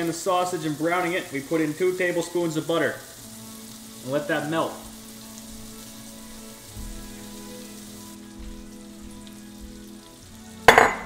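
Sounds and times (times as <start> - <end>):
butter sizzling in frying pan: 0.0 - 11.0.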